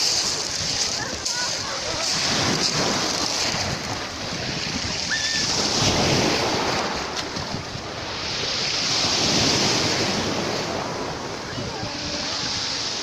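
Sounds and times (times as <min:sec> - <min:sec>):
sea waves breaking on shore: 0:00.0 - 0:13.0
wind buffeting microphone: 0:00.0 - 0:13.0.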